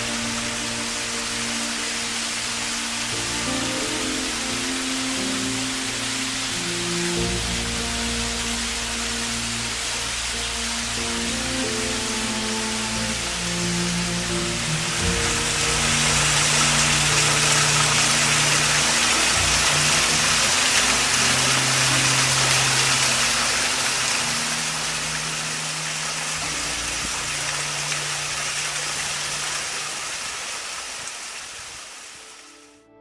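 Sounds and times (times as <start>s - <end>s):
soft music of low held notes: 0.0s - 30.2s
waterfall rushing: 0.0s - 32.6s.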